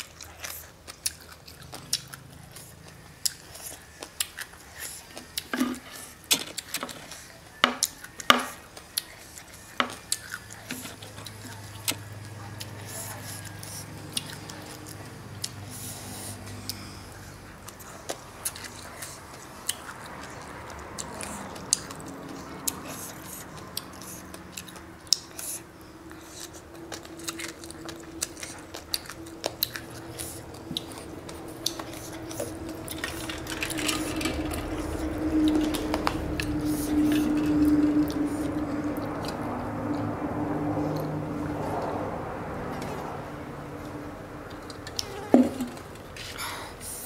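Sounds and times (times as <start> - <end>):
slurping and chewing noodles: 0.0 - 42.0.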